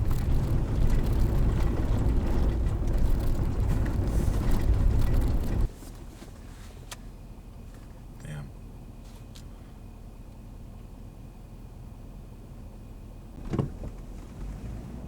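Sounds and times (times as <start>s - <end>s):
road and engine rumble inside car: 0.0s - 15.0s.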